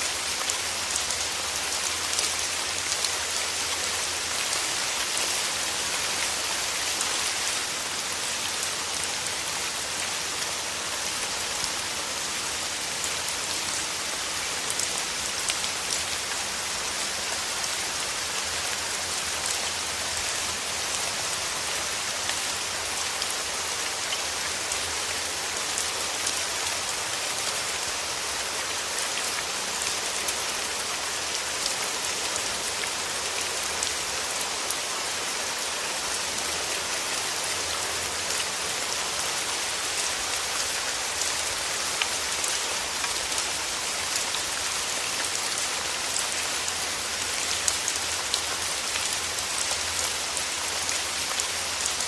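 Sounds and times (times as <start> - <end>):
rain pattering: 0.0 - 52.0.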